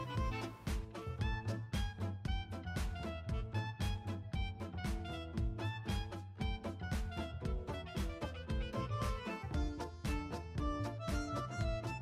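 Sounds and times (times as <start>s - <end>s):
background music with quick beat: 0.0s - 12.0s.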